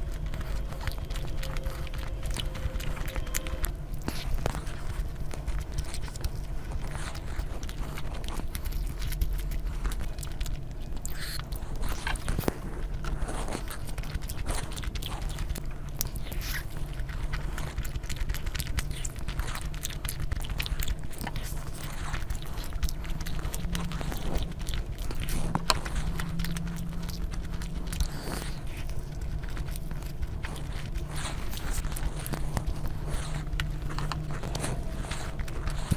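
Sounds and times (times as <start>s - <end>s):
low hum: 0.0s - 35.9s
person chewing food: 0.0s - 35.9s.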